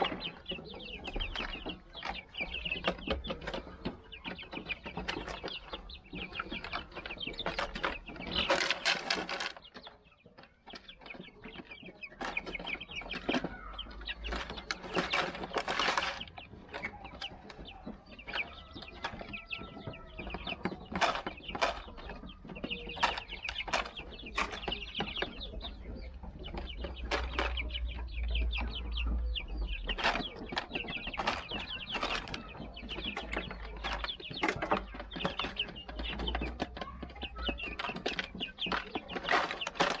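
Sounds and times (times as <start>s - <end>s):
chickens clucking and peeping: 0.0s - 40.0s
chickens pecking plastic bottle feeder: 0.0s - 40.0s
chickens scuffling: 0.0s - 40.0s.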